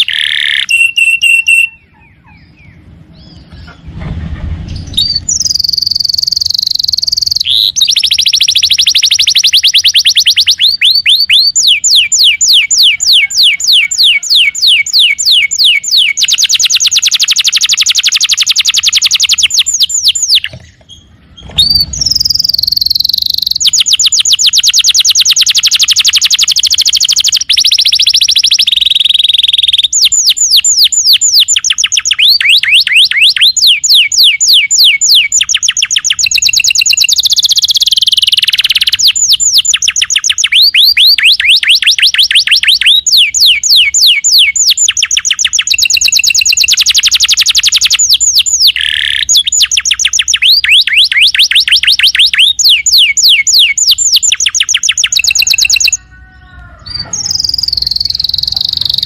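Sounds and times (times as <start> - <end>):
canary singing: 0.0 - 4.0, 4.7 - 59.0.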